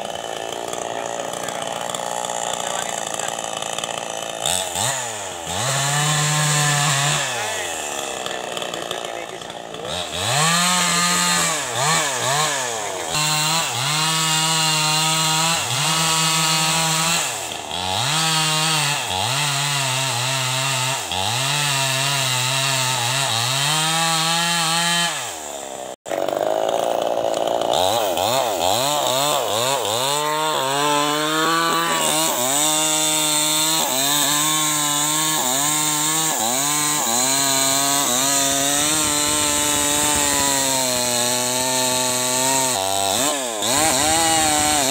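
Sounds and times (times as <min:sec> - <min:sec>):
chainsaw cutting a log: 0:00.0 - 0:44.9.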